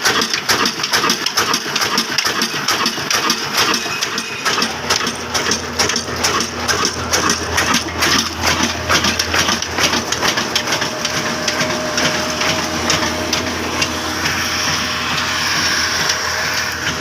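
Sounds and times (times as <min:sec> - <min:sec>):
machinery knocking and crackling: 0:00.0 - 0:17.0
diesel engine low hum: 0:01.2 - 0:17.0.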